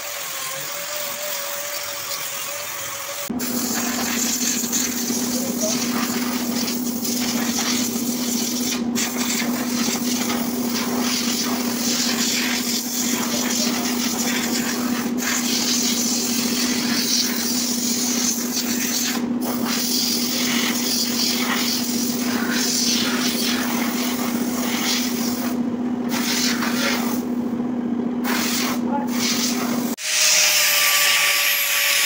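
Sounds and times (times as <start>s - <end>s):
paint spray gun hissing: 1.1s - 27.2s, 28.2s - 30.3s
low hum: 3.3s - 30.0s.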